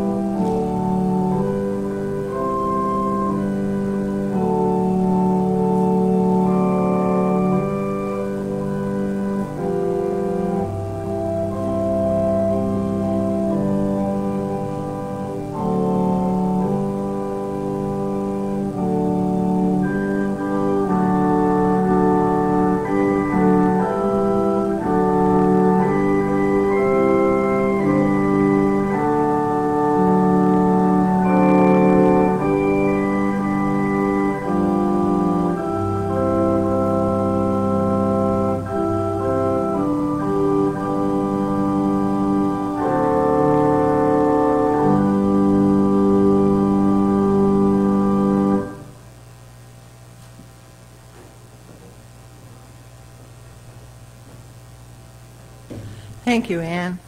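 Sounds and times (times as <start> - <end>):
church organ playing chords: 0.0 - 50.4
low steady hum: 0.0 - 57.0.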